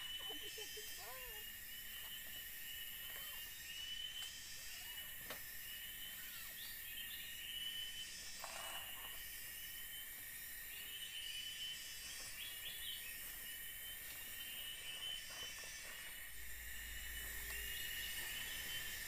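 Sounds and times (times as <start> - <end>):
high chirring insect calls: 0.0 - 19.0
insects droning: 0.0 - 19.0.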